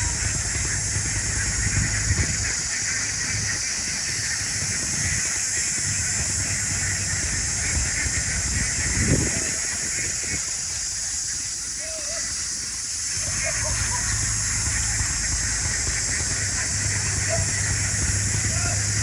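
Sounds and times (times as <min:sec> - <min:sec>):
wind rumble on microphone: 0:00.0 - 0:11.7, 0:13.1 - 0:19.0
steady high-pitched hiss: 0:00.0 - 0:19.0.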